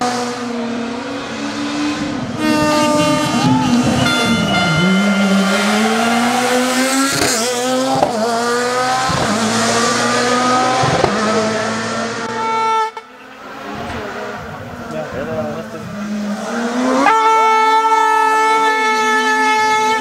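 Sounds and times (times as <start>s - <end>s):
rally car engine shifting gears: 0.0s - 20.0s.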